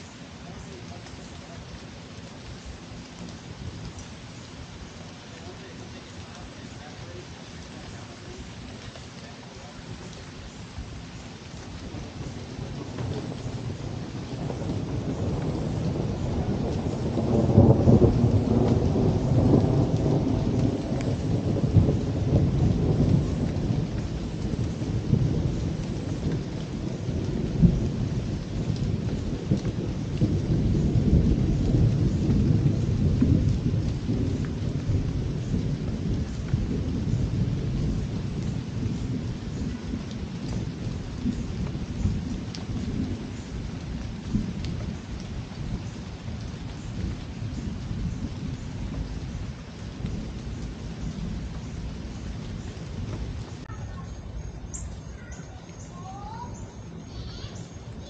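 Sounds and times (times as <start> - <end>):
steady rain: 0.0 - 58.0
rolling thunder: 5.4 - 55.4.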